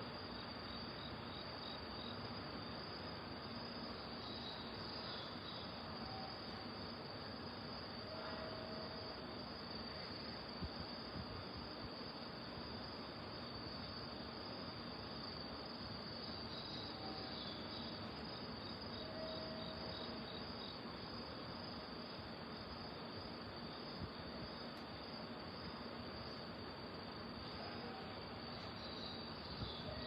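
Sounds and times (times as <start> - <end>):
crickets singing: 0.0 - 30.0.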